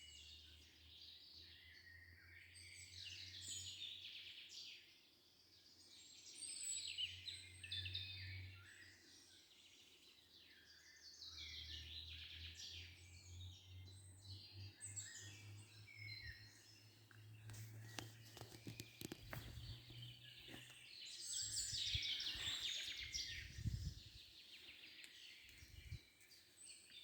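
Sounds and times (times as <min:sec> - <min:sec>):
songbirds chirping and trilling: 0:00.0 - 0:27.0.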